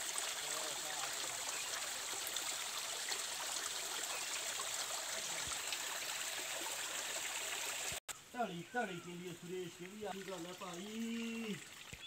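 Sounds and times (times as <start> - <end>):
water trickling over rocks: 0.0 - 12.0.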